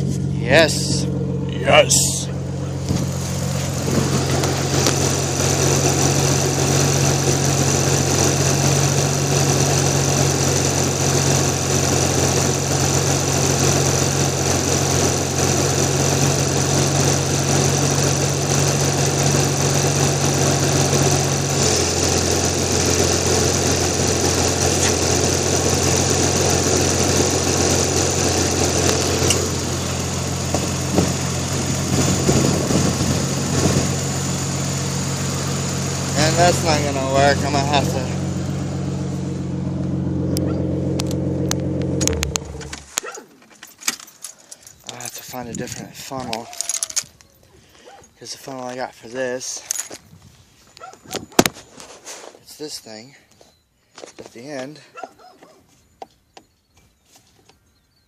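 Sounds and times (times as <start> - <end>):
car engine idling: 0.0 - 46.5.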